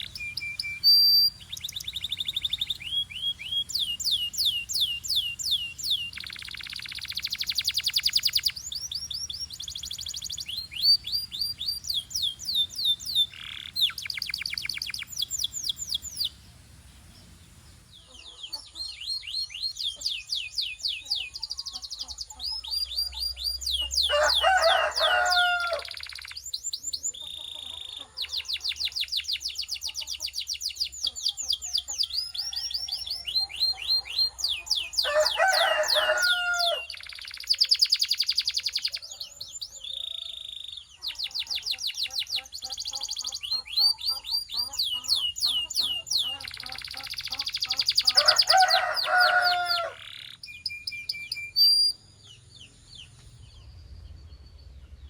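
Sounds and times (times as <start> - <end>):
canary singing trills: 0.0 - 55.0
lower fuller bird calls: 0.0 - 55.0.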